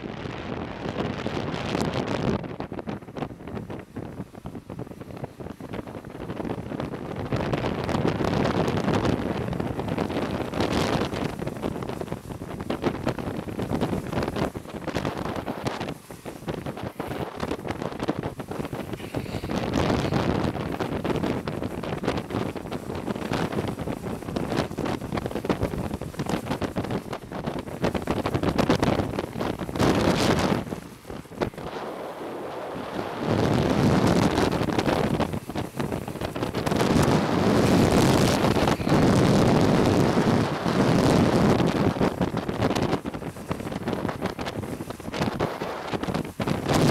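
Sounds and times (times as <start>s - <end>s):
longboard wheels on asphalt: 0.0s - 46.9s
wind rushing over microphone: 0.0s - 46.9s.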